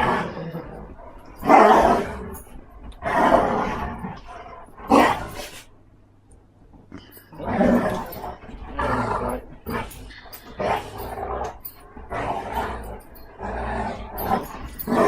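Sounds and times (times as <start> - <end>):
dogs growling: 0.0 - 5.6, 7.0 - 15.0.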